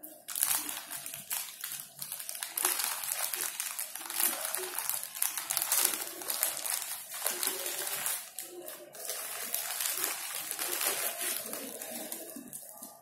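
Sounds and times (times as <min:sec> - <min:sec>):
plastic mailer crinkling: 0:00.0 - 0:13.0.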